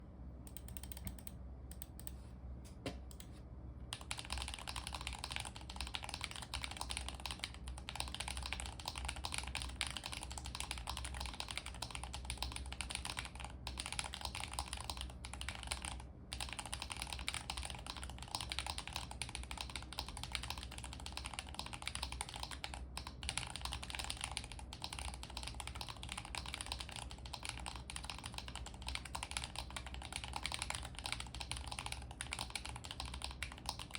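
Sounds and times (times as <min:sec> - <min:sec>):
fast typing on mechanical keyboard: 0:00.5 - 0:01.3, 0:03.9 - 0:33.9.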